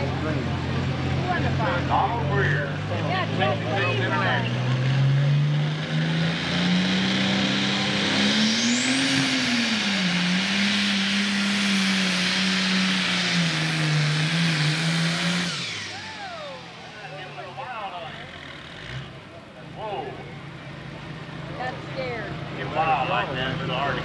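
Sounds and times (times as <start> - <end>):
diesel tractor engine under load: 0.0 - 24.0.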